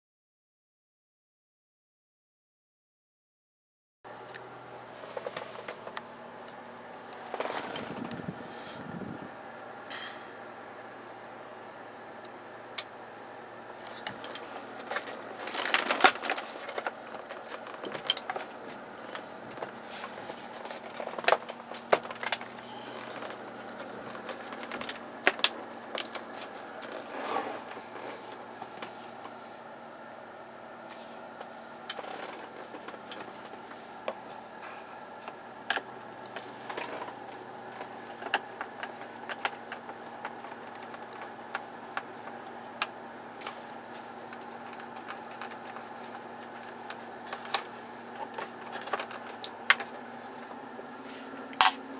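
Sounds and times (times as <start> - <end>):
faint steady hum: 4.1 - 51.9.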